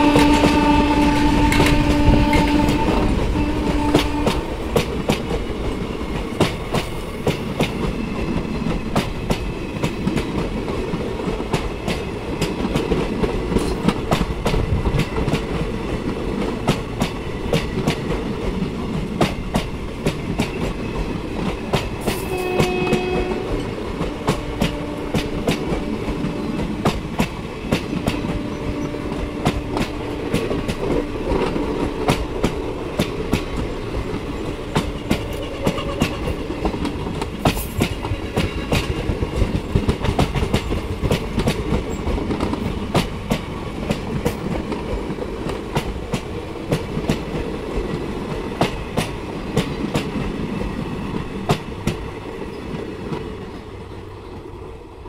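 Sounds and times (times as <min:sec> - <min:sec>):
rail rumble: 0:00.0 - 0:55.0.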